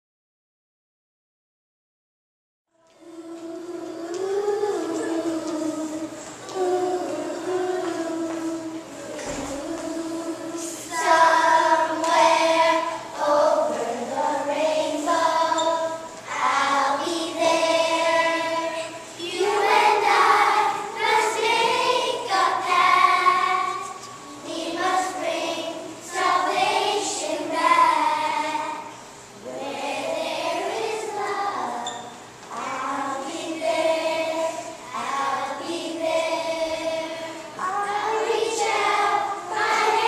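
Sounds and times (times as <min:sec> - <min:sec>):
children singing in chorus: 0:02.8 - 0:40.0.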